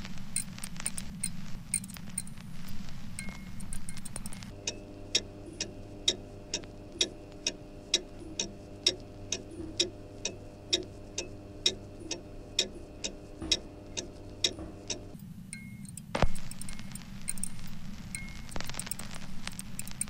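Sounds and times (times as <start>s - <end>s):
steady low hum: 0.0s - 20.0s
clock ticking: 0.4s - 2.4s, 3.2s - 17.6s.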